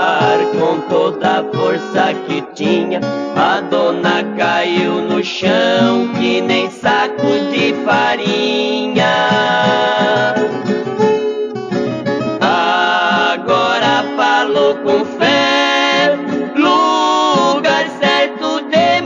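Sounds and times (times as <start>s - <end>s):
plucked acoustic guitars: 0.0s - 19.0s.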